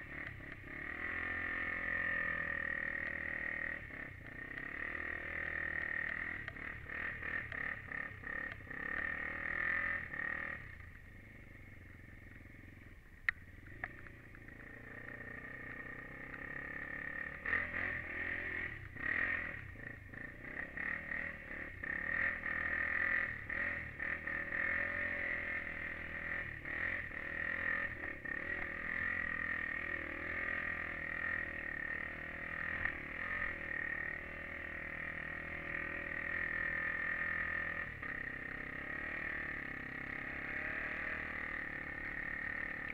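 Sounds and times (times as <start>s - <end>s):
quad engine revving: 0.0s - 11.3s, 13.7s - 42.9s.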